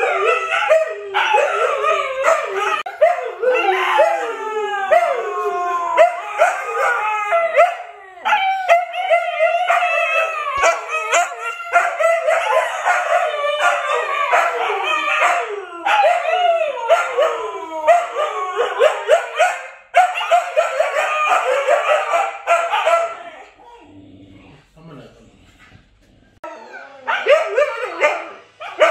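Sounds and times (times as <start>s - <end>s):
dogs howling and yipping: 0.0s - 24.3s, 26.4s - 28.9s.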